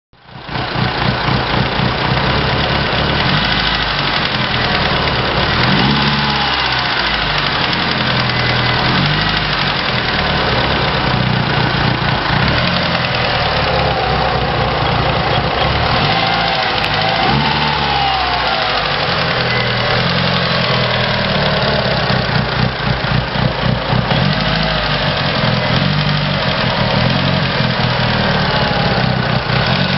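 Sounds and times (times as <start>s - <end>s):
car engine idling: 0.2s - 29.9s
fast regular ticking: 0.4s - 29.9s.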